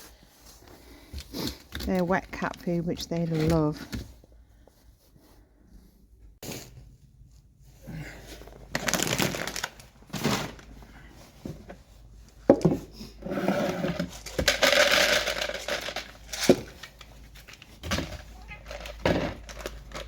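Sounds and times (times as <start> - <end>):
crinkling and scraping: 0.0 - 20.0.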